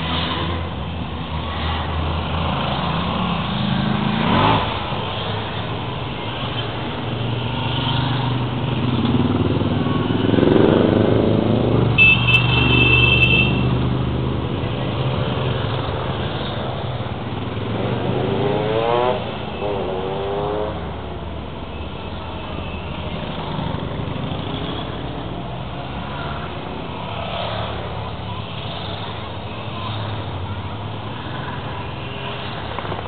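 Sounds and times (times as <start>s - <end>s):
motorcycle engines revving: 0.0s - 33.0s.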